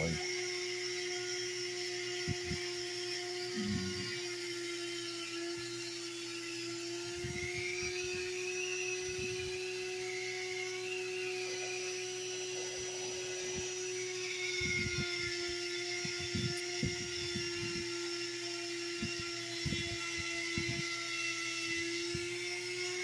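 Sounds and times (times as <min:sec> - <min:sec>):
rotary tool motor whine: 0:00.0 - 0:23.0.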